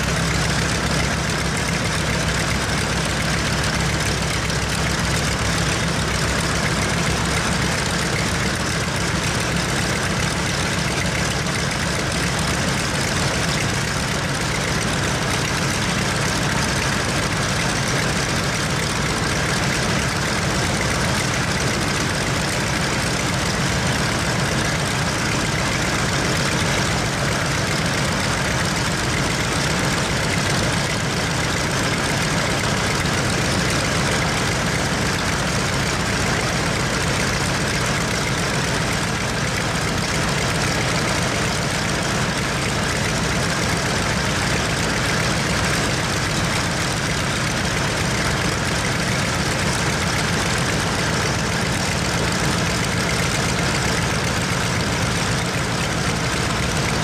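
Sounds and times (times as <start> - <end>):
radial aircraft engine running: 0.0 - 57.0.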